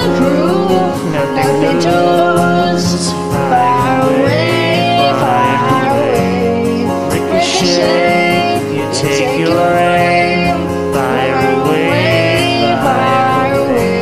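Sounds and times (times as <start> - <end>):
man and woman singing: 0.0 - 14.0
pop backing track: 0.0 - 14.0.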